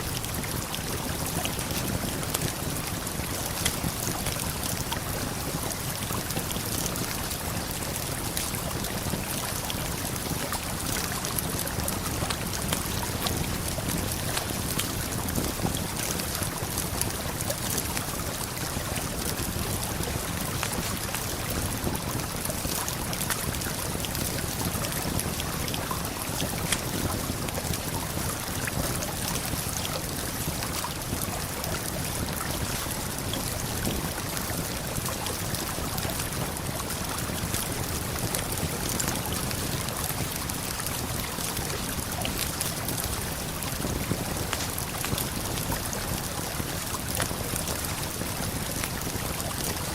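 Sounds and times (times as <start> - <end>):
campfire crackling and popping: 0.0 - 49.8.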